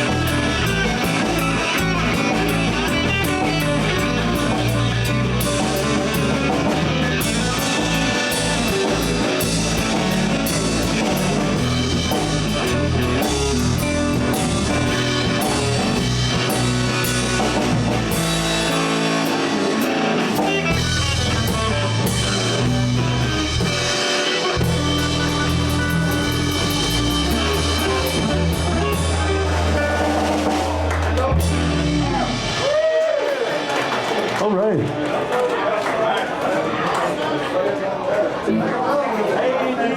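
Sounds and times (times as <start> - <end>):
electric bass: 0.0 - 33.2
drum kit with cymbal strokes: 0.0 - 34.2
guitar: 0.0 - 35.3.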